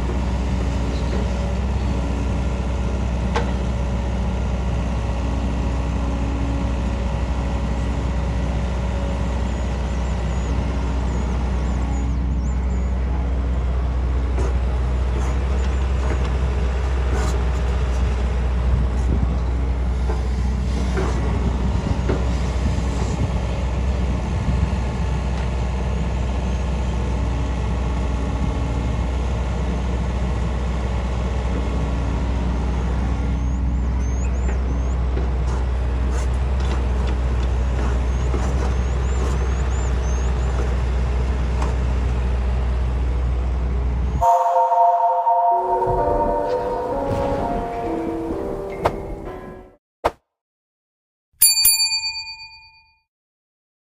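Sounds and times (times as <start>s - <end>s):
construction machine engine drone: 0.0s - 45.0s.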